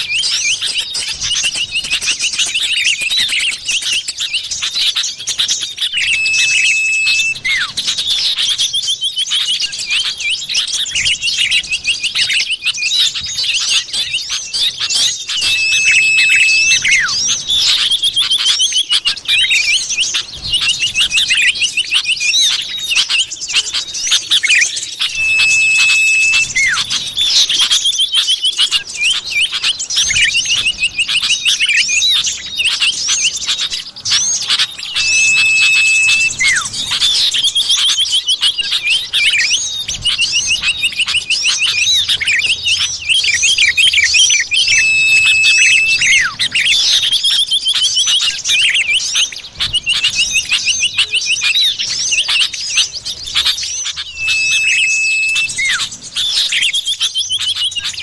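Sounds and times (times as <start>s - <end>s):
bird trills and chirps: 0.0s - 58.0s
long steady bird whistle: 0.0s - 58.0s.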